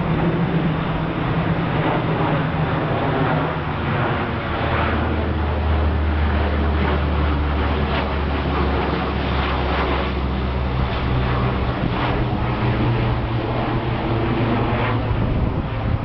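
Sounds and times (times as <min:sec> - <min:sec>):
propeller aircraft drone overhead: 0:00.0 - 0:16.0.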